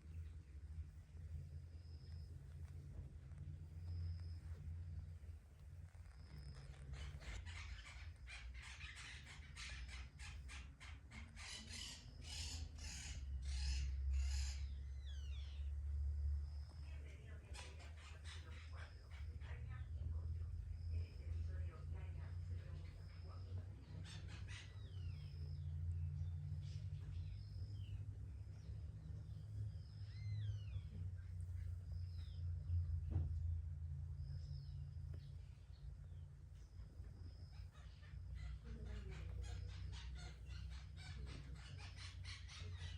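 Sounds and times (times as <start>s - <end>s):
songbirds calling: 0.0s - 42.9s
steady low rumble: 0.0s - 42.9s
bird chirping: 5.8s - 33.3s, 34.1s - 42.9s.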